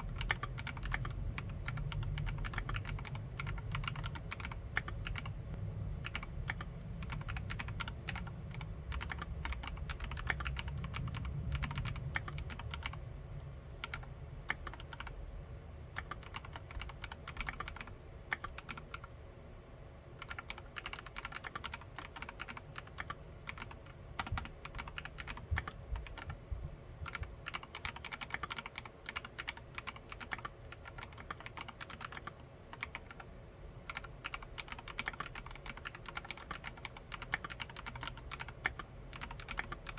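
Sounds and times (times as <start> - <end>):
mechanical keyboard typing: 0.0 - 5.4, 6.0 - 13.0, 13.8 - 15.2, 16.0 - 19.1, 20.2 - 26.4, 27.0 - 33.3, 33.9 - 39.9.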